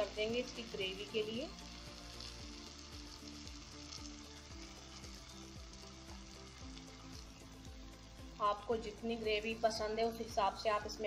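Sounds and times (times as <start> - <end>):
masala sizzling in oil: 0.0 - 11.0
soft background music: 0.0 - 11.0.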